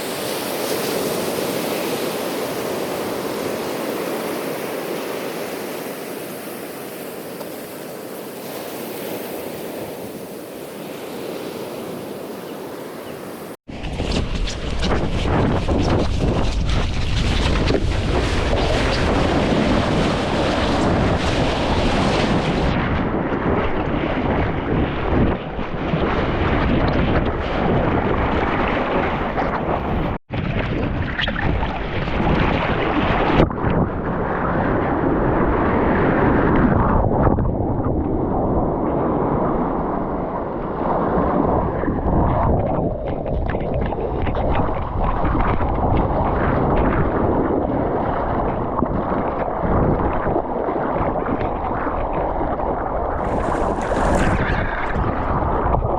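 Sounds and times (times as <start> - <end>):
surf washing: 0.0 - 55.9
wind buffeting microphone: 0.0 - 55.9.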